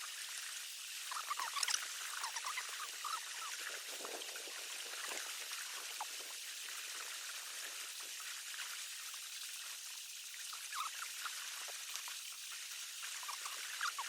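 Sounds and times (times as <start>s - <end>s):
river water trickling: 0.0s - 14.0s
water drips and splashes: 0.0s - 14.0s.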